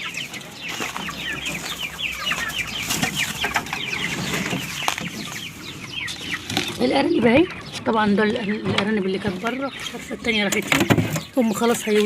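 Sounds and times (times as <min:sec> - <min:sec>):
chickens peeping and clucking: 0:00.0 - 0:12.0.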